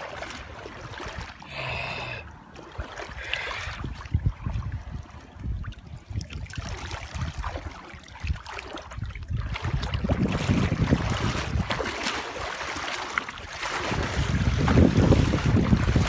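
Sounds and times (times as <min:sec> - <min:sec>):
water sloshing and splashing: 0:00.0 - 0:16.0
wind rumble on microphone: 0:02.8 - 0:16.0.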